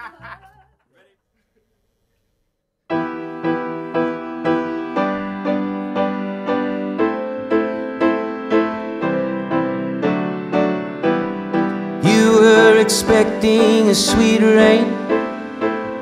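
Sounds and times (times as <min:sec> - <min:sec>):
keyboard chords: 0:02.9 - 0:16.0.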